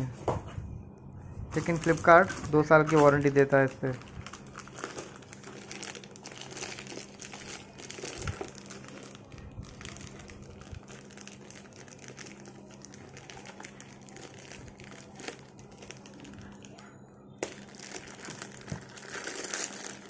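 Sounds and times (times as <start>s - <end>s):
steady low hum: 0.0s - 20.0s
plastic bag crinkling: 1.5s - 20.0s.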